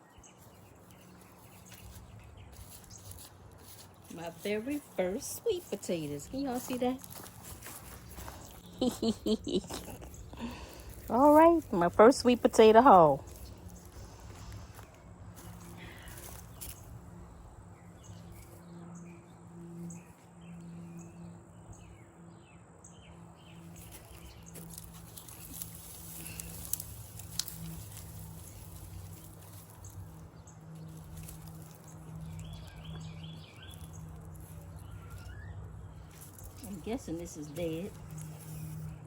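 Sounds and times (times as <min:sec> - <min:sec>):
birds chirping: 0:00.0 - 0:39.0
steady low hum: 0:00.0 - 0:39.0.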